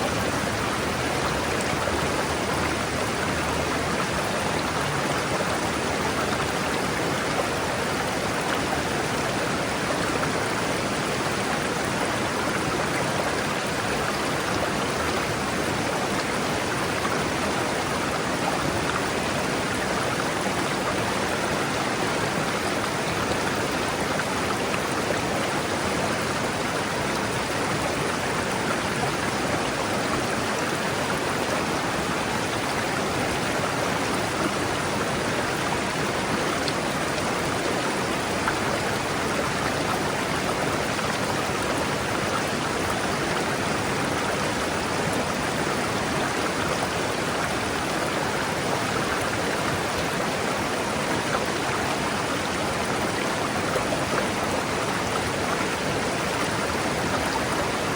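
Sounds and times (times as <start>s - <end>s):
river water rushing over rocks: 0.0s - 57.9s.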